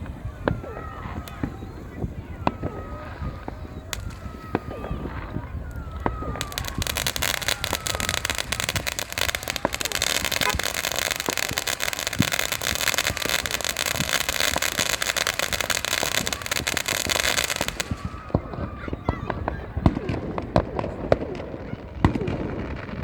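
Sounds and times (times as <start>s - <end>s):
fireworks hiss: 0.0s - 18.7s
fireworks crackling: 0.0s - 23.0s
loud fireworks bangs: 0.0s - 23.0s.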